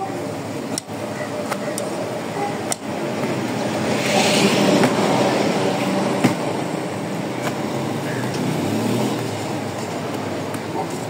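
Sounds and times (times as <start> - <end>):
roadside traffic noise: 0.0 - 11.0
vehicle passing: 1.9 - 11.0.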